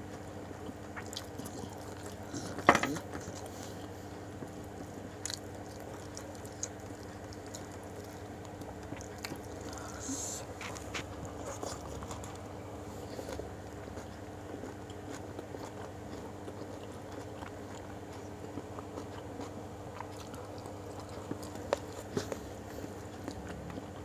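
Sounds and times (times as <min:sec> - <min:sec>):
chewing: 0:00.0 - 0:24.0
steady low hum: 0:00.0 - 0:24.0.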